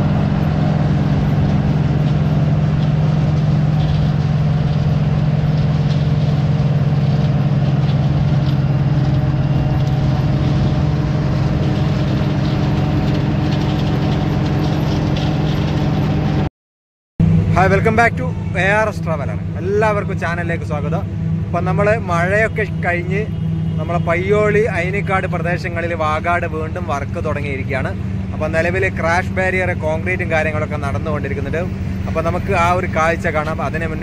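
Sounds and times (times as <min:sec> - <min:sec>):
diesel engine humming: 0:00.0 - 0:16.5, 0:17.2 - 0:34.0.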